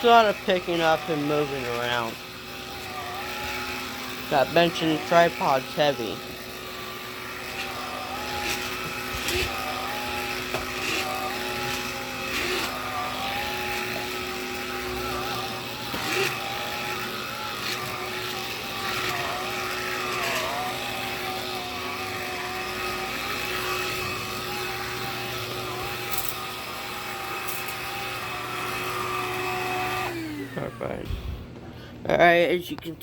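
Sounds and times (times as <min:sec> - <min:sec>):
stick vacuum motor whine: 0:00.0 - 0:32.9.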